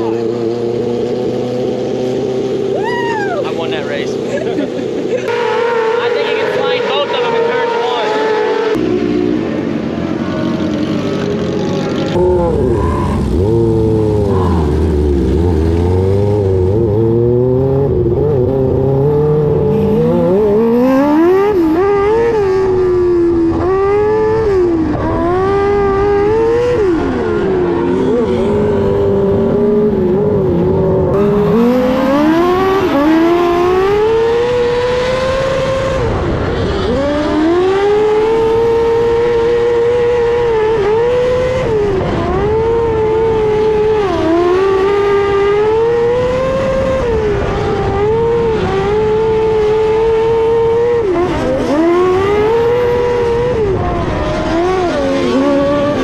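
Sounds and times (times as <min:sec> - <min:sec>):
other race car engines: 0:00.0 - 0:56.0
race car engine revving: 0:03.4 - 0:56.0.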